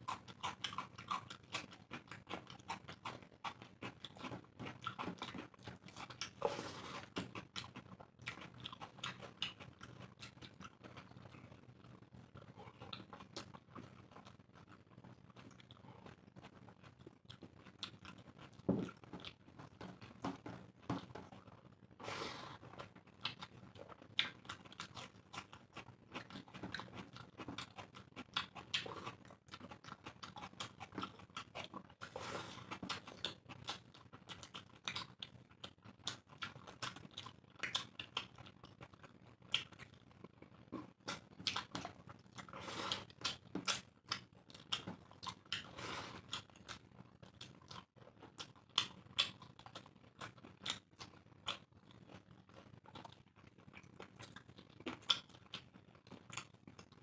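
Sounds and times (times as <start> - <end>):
people chewing food: 0.0 - 57.0.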